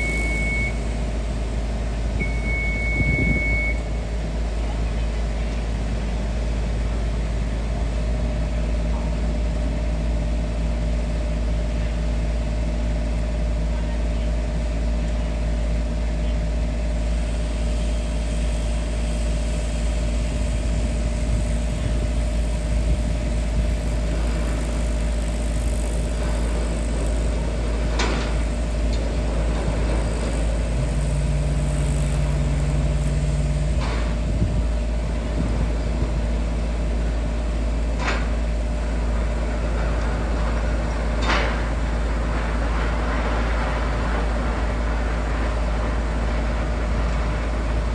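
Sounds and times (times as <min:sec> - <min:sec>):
engine running with deep rumble: 0:00.0 - 0:47.9
low engine tone: 0:00.0 - 0:47.9.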